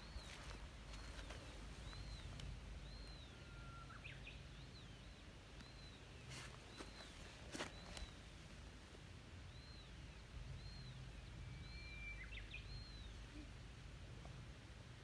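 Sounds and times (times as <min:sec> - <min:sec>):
bird chirping: 0:00.0 - 0:08.3, 0:09.5 - 0:13.5.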